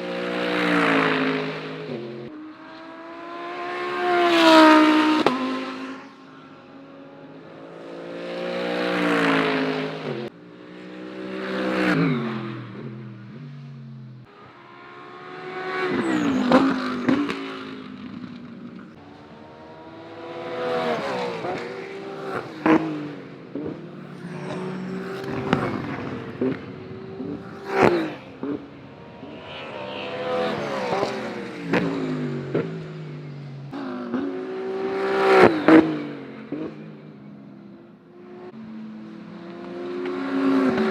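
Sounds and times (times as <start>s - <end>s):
race cars passing: 0.0s - 40.9s.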